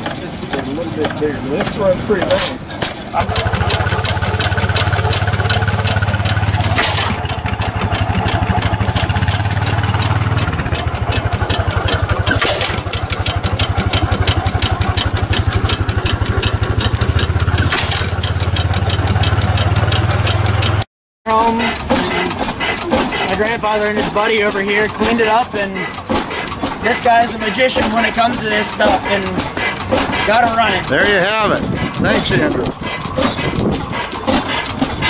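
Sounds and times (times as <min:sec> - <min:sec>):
stationary gas engine running: 0:00.0 - 0:35.0.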